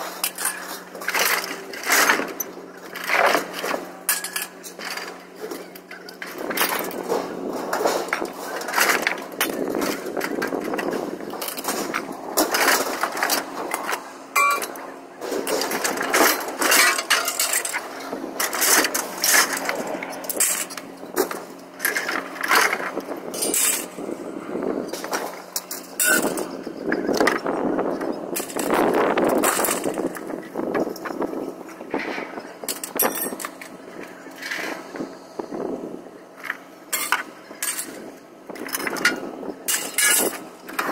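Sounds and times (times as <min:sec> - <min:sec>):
scrap metal clanking and crashing: 0:00.0 - 0:24.2, 0:24.9 - 0:35.1, 0:36.4 - 0:40.9
steady low hum: 0:00.0 - 0:40.9.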